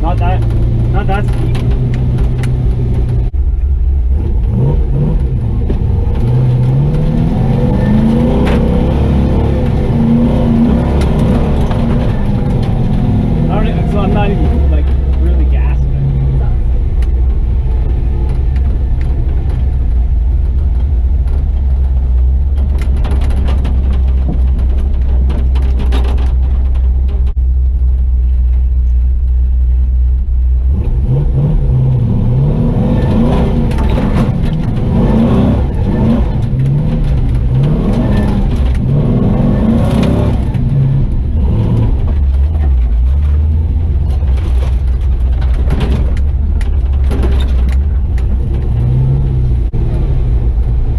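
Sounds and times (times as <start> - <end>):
truck engine revving under load: 0.0 - 27.3, 30.6 - 50.9
rattles: 0.0 - 30.5, 32.8 - 49.7.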